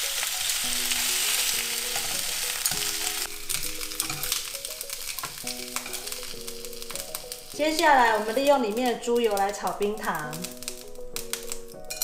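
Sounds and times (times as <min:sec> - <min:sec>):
pork sizzling in a pan: 0:00.0 - 0:12.0.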